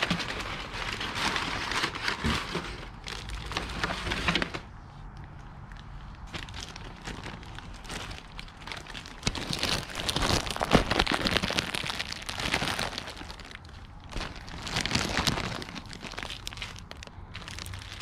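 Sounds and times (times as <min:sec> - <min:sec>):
plastic bag crinkling: 0:00.0 - 0:04.7, 0:06.2 - 0:18.0.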